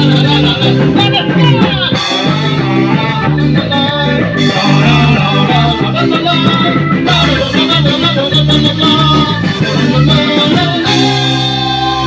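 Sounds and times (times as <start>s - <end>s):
band playing ska instrumental: 0.0s - 12.0s.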